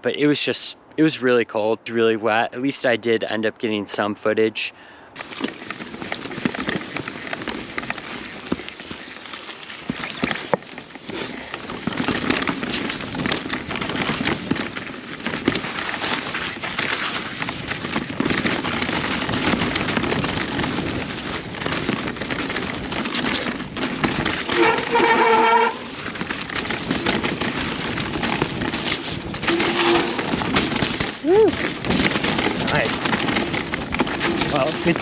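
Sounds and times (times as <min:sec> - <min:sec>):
tyres on rocky trail: 0:04.8 - 0:35.0
bike clicks and rattles: 0:05.2 - 0:35.0.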